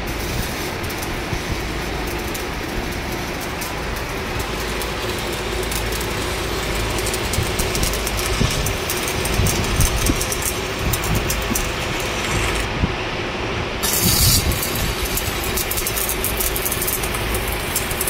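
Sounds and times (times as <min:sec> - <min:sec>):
steady hum: 0:00.0 - 0:18.0
welding arc hissing and crackling: 0:00.0 - 0:18.0.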